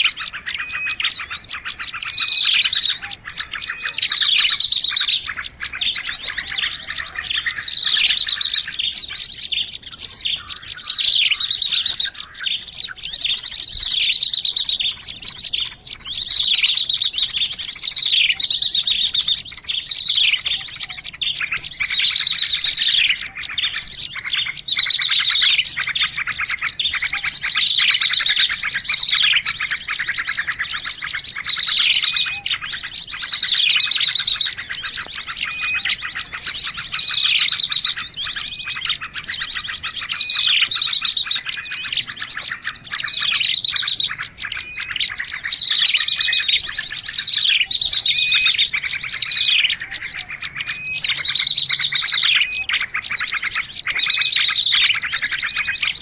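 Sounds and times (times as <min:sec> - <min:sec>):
falling bird chirp: 0:00.0 - 0:56.0
small songbirds chirping: 0:00.0 - 0:56.0.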